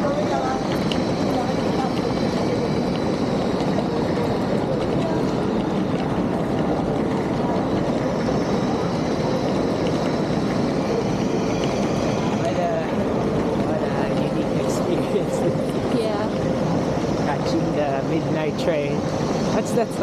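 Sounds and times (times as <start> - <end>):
crowd voices in station hall: 0.0 - 20.0.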